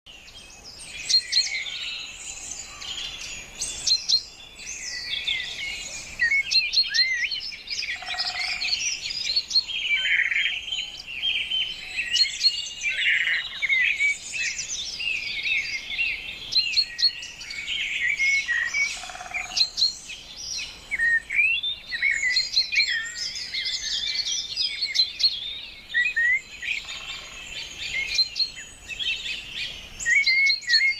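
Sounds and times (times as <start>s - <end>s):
songbirds chirping and trilling: 0.1s - 30.9s
low bird calls: 1.0s - 30.9s.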